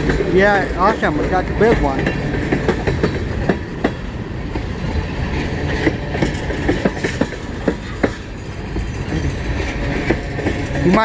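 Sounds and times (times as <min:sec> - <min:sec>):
freight train rumbling past: 0:00.0 - 0:11.0
wheels clacking over rail joints: 0:00.0 - 0:11.0.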